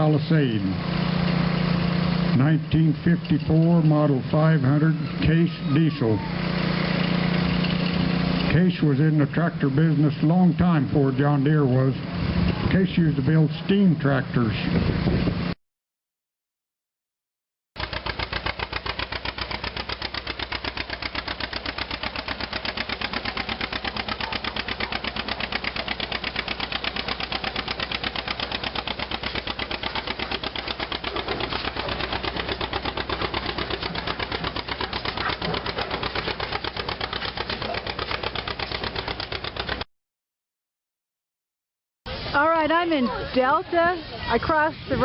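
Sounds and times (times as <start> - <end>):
antique tractor engine running: 0.0 - 15.5, 17.8 - 39.9.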